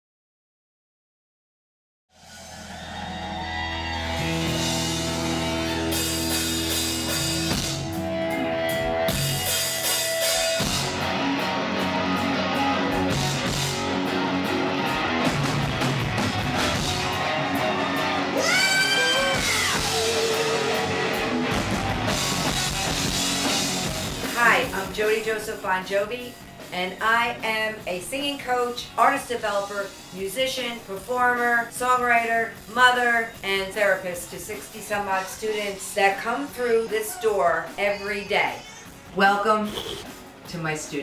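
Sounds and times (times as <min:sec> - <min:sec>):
rock music: 0:02.2 - 0:40.5.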